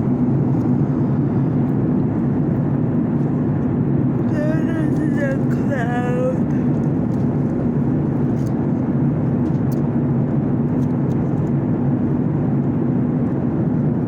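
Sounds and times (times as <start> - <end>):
jet airliner engine rumble: 0.0 - 14.0.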